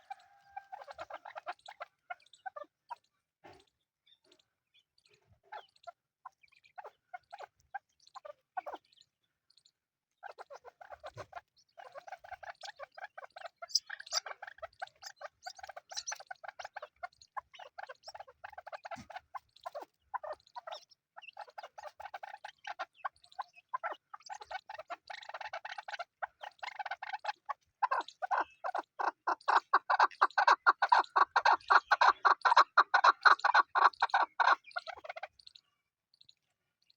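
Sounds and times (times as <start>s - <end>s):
partridges chattering calls: 0.0s - 3.0s, 10.2s - 36.9s.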